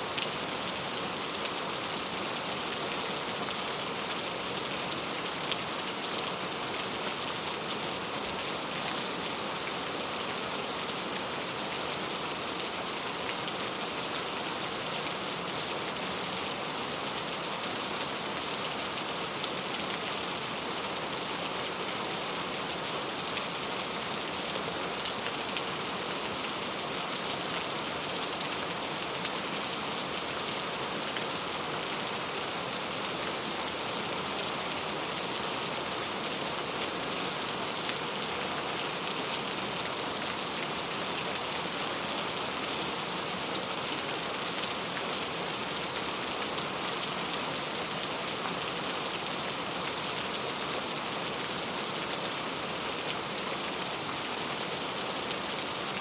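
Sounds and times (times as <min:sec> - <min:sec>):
rain falling on a road: 0:00.0 - 0:56.0.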